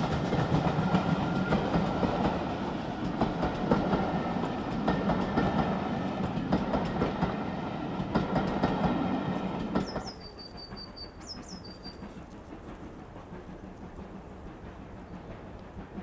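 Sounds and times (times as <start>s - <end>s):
train rumble: 0.0s - 16.0s
train wheels clicking over rail joints: 0.0s - 16.0s.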